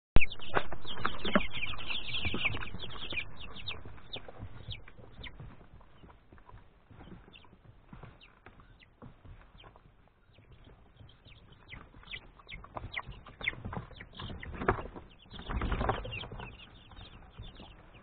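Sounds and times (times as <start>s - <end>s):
chicks peeping: 0.2s - 18.0s
grass rustling and tapping: 0.4s - 18.0s.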